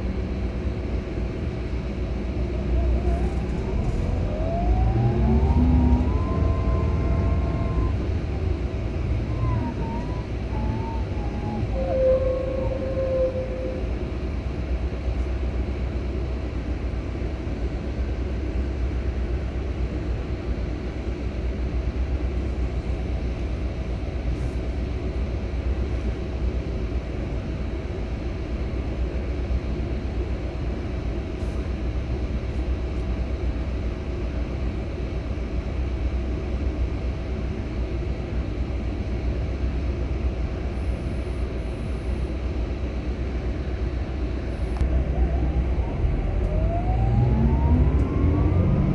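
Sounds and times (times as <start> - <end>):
diesel engine running: 0.0 - 27.3, 29.6 - 48.9.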